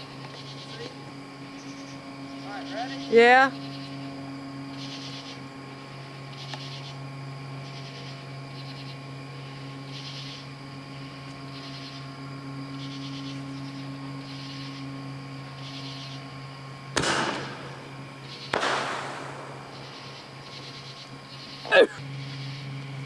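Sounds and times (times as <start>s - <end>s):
insects buzzing calls: 0.0s - 23.0s
low electrical hum: 0.0s - 23.0s.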